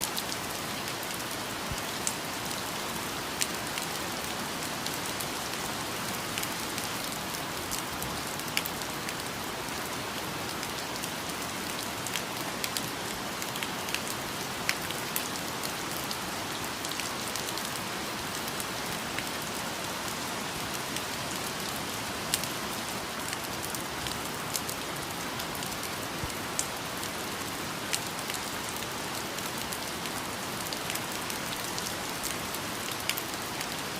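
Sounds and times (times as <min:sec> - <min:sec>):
rain falling on foliage: 0:00.0 - 0:33.9.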